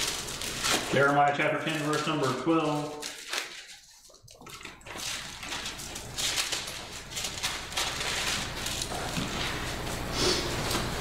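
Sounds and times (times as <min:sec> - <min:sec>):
book pages turning: 0:00.0 - 0:11.0.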